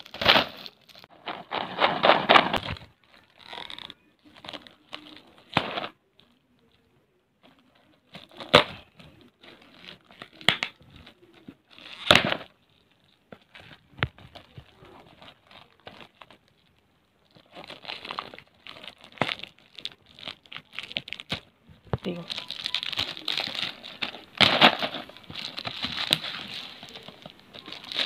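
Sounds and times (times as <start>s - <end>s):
plastic wrap crinkling and tearing: 0.0s - 28.0s.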